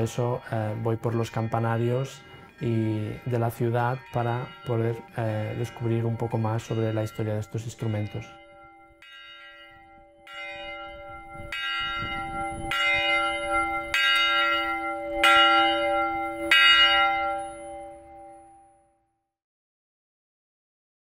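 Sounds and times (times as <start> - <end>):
church bell tolling: 0.0 - 19.0.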